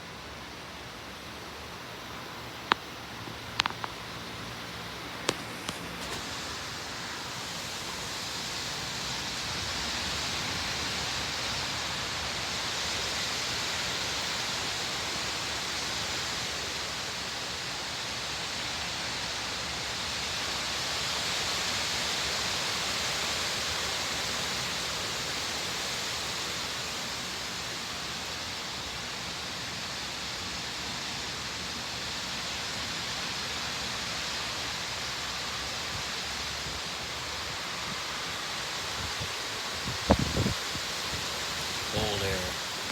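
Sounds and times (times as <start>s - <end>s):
wind and rain rushing: 0.0s - 42.9s.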